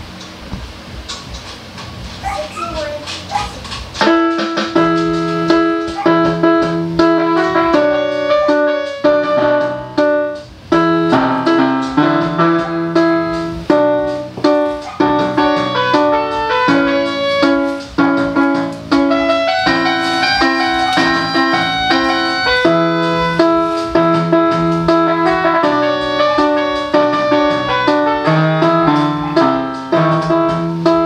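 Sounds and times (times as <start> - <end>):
electronic keyboard piano piece: 0.0 - 31.0.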